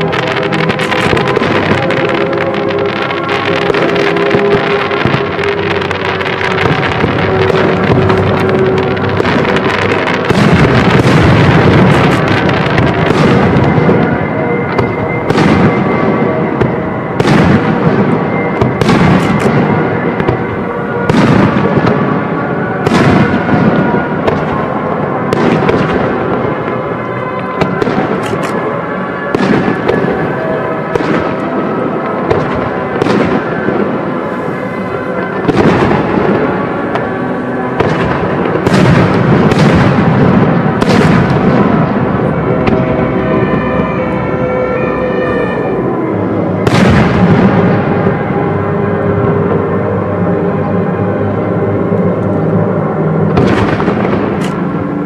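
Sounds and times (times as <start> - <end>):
firework bangs: 0.0 - 44.1, 45.1 - 49.8, 53.3 - 55.0
firework crackle and rumble: 0.0 - 55.0.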